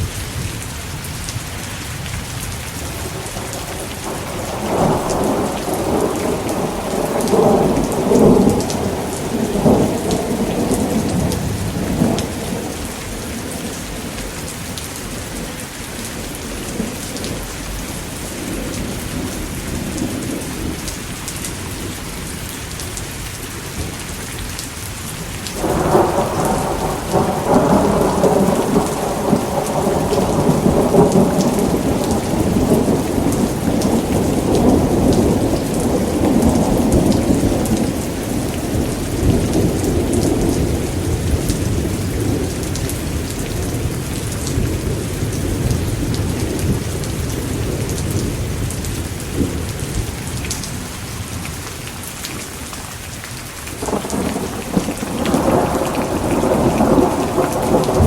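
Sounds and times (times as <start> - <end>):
thunder rumbling: 0.0 - 21.8, 25.6 - 51.4, 53.8 - 58.0
steady rain: 0.0 - 58.0.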